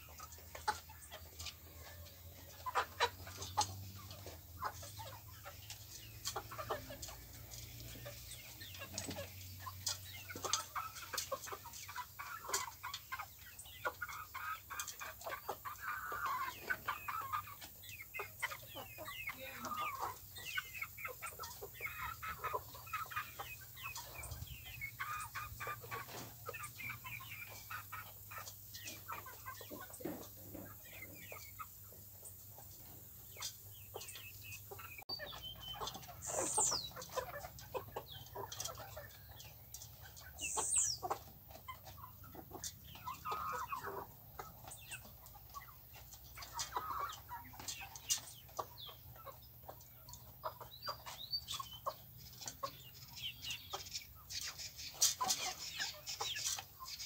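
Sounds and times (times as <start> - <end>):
chicks clucking softly: 0.0 - 57.0.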